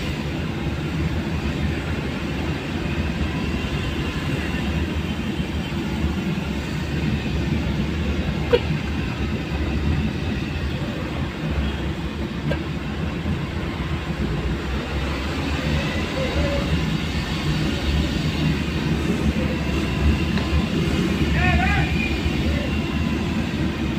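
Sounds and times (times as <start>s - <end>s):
vehicle rumbling along road: 0.0s - 23.9s.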